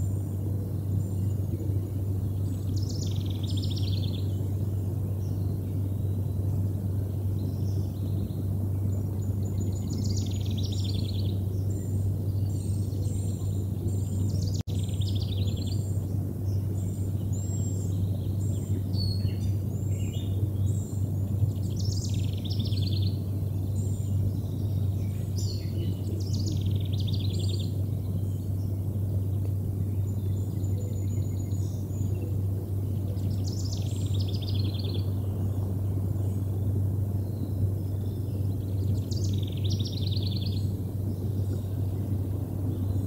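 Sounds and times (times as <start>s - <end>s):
songbirds singing: 0.0s - 43.0s
steady low hum: 0.0s - 43.0s.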